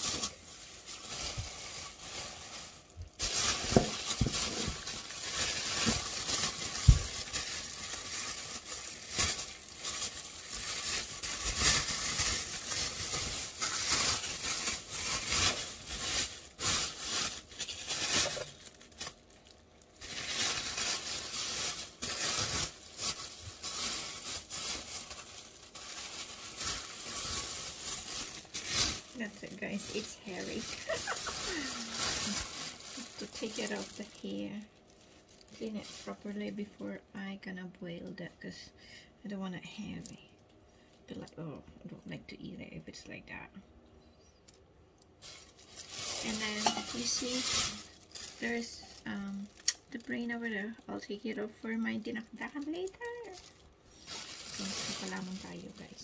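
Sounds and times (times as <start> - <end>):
plastic bag rustling: 0.0 - 36.9, 45.1 - 56.0.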